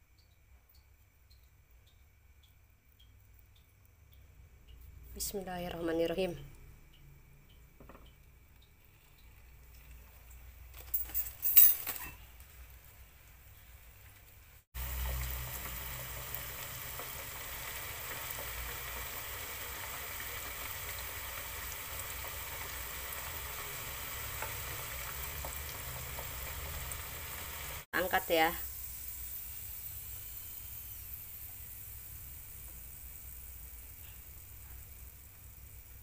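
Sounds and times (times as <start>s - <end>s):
potato deep-frying in oil: 0.0s - 10.8s, 12.2s - 36.0s.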